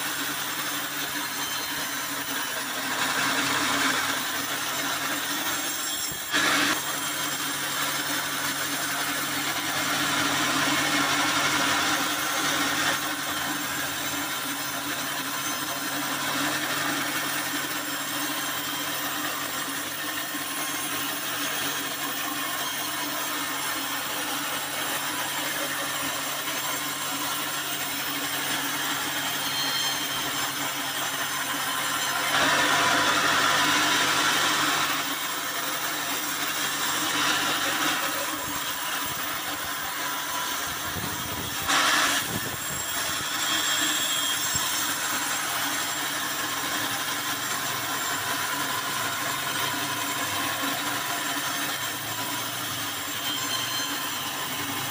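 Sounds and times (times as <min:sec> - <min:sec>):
band saw cutting log: 0:00.0 - 0:54.9.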